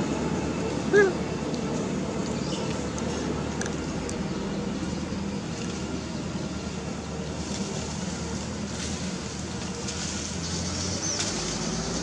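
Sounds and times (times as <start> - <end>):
low motor hum: 0.0 - 12.0
outdoor background noise: 0.0 - 12.0.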